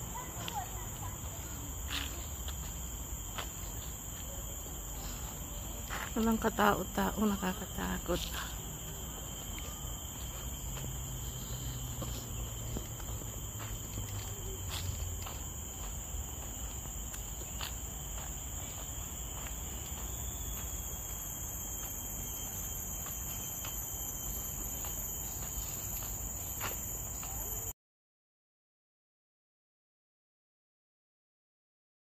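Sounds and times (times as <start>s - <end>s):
insect chorus drone: 0.0s - 27.7s.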